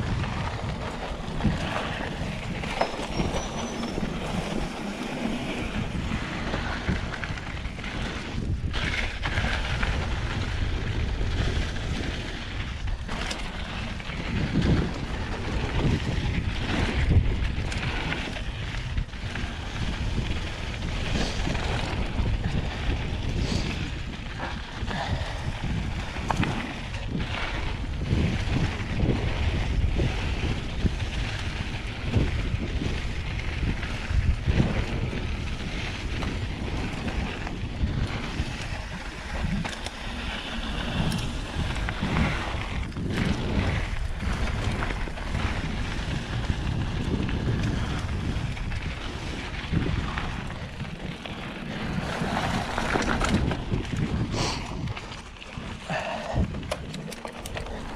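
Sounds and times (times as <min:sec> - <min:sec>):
bike knocking and rattling: 0:00.0 - 0:57.9
knobby tyres rolling on dirt: 0:00.0 - 0:57.9
wind buffeting microphone: 0:00.0 - 0:57.9.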